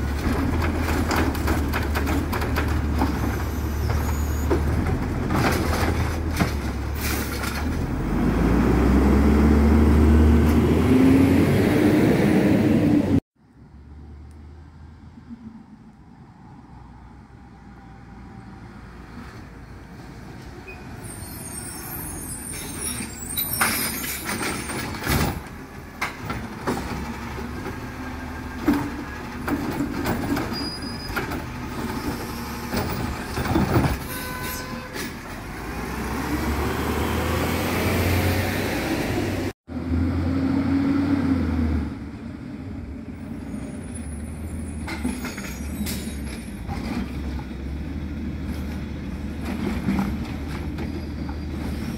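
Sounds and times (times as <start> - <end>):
garbage truck approaching: 0.0 - 13.2, 17.1 - 51.9.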